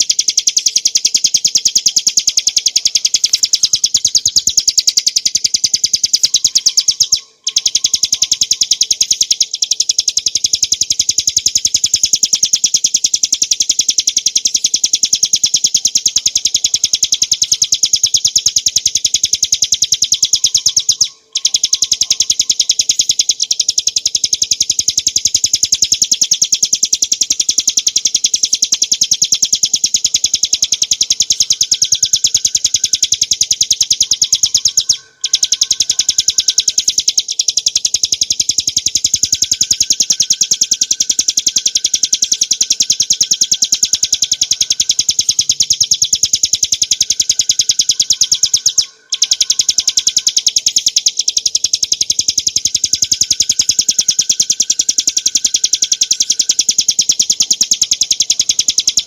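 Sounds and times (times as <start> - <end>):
bird singing fast trill: 0.0 - 59.0.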